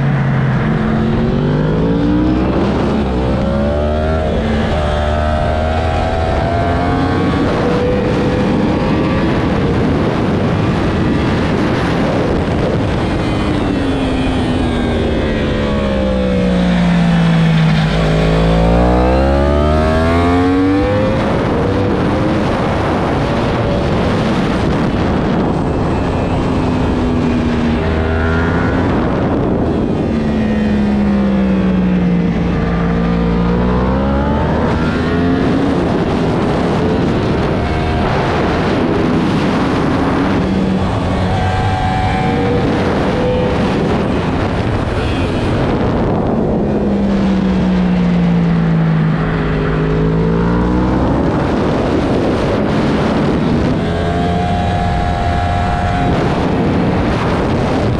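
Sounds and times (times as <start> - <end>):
motorcycle engine revving: 0.0 - 57.9
wind rush on microphone: 0.0 - 57.9.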